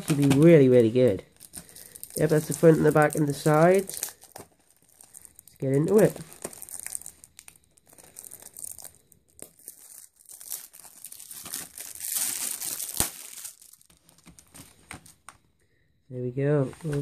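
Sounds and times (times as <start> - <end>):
plastic wrap crinkling: 0.0 - 15.4.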